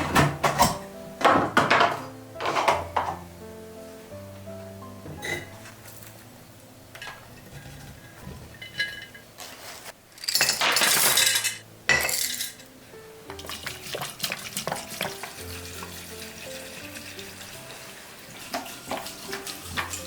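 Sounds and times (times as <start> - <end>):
dishes and utensils clinking: 0.0 - 3.2, 5.1 - 6.2, 7.0 - 9.6, 10.2 - 12.7, 13.3 - 20.0
soft background music: 0.0 - 10.0, 10.6 - 20.0.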